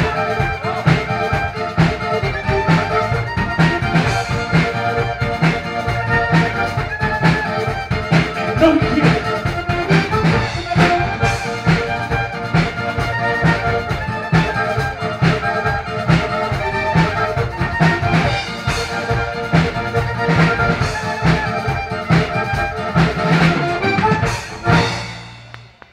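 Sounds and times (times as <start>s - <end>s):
accordion folk music: 0.0s - 25.7s.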